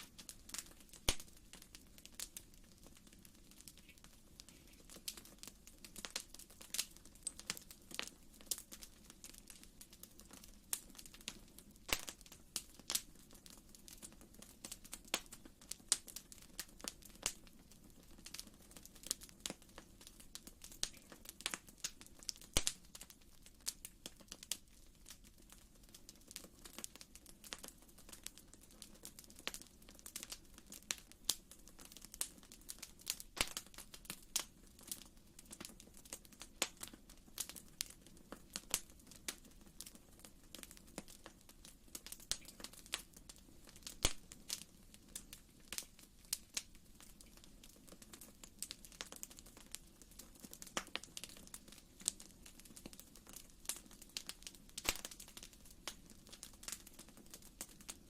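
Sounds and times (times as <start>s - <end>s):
faint low hiss: 0.0s - 58.0s
wood fire crackling: 0.0s - 58.0s.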